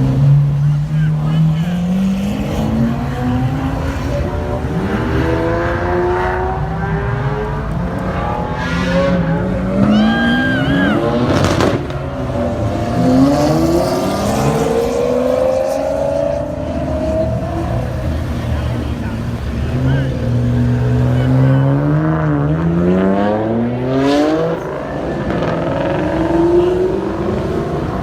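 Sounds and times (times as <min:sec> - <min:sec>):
car engines accelerating hard: 0:00.0 - 0:28.0.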